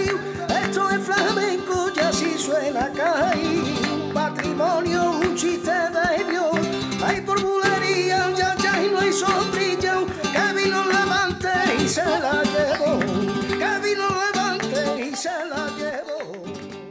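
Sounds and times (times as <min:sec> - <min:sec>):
person singing: 0:00.0 - 0:16.7
sharp rhythmic strikes: 0:00.0 - 0:16.8
acoustic guitar strummed and plucked: 0:00.0 - 0:16.9.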